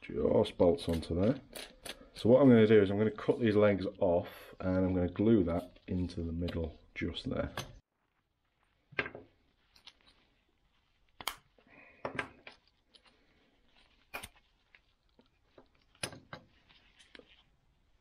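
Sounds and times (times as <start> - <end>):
faint rustling: 2.2 - 18.0.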